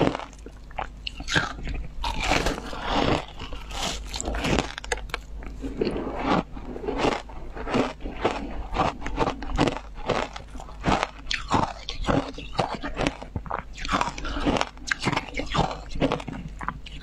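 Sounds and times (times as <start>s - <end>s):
ice crunching while chewed: 0.0s - 17.0s.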